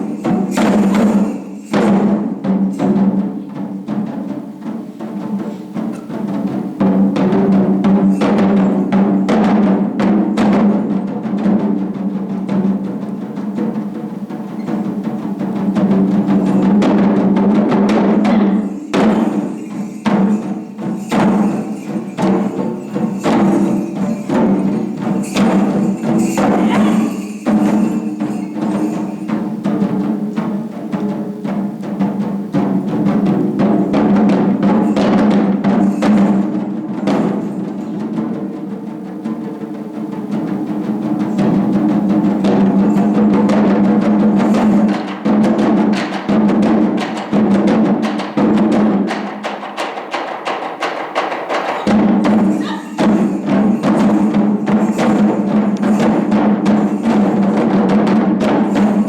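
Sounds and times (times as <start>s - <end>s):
fast drum strikes: 0.0s - 59.0s.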